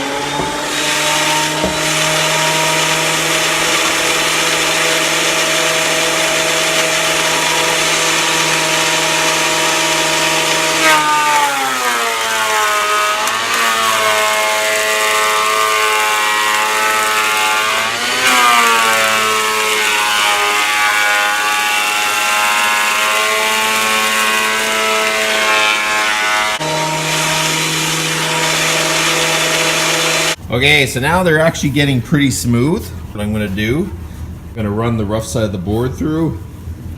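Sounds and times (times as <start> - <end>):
thickness planer cutting board: 0.0 - 30.4.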